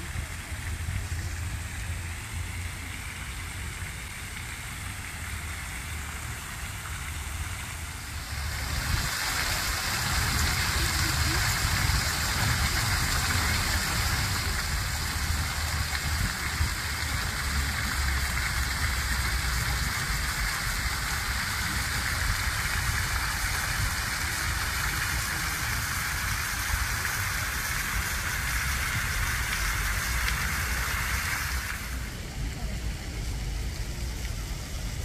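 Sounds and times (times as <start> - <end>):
low steady rumble: 0.0 - 26.9, 27.5 - 35.0
fountain water splashing: 0.0 - 35.0.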